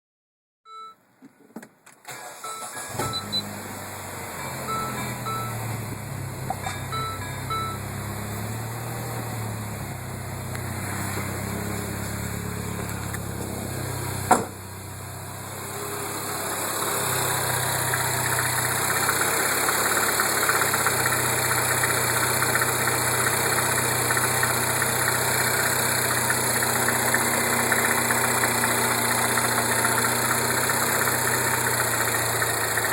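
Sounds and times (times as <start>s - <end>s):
car engine idling with rattle: 2.8s - 32.9s.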